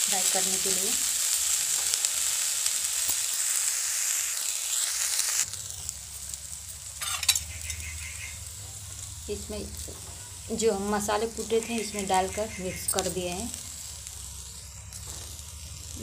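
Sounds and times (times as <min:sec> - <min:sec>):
potatoes sizzling in oil: 0:00.0 - 0:16.0.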